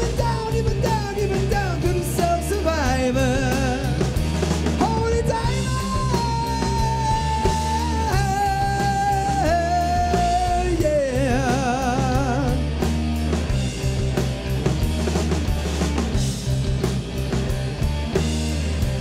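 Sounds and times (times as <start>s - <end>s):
rock and roll band playing: 0.0s - 19.0s.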